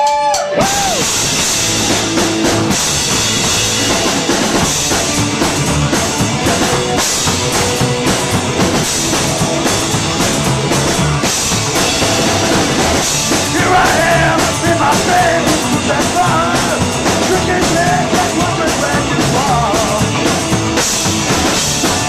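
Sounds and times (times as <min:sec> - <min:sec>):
drum kit: 0:00.0 - 0:22.0
rock band playing live: 0:00.0 - 0:22.0.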